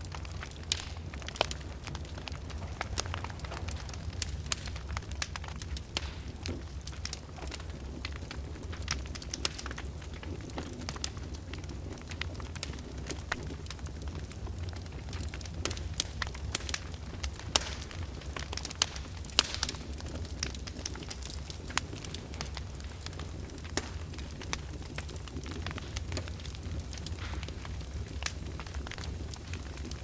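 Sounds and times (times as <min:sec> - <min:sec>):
fire popping: 0:00.0 - 0:30.0
fireplace fire crackling: 0:00.0 - 0:30.0.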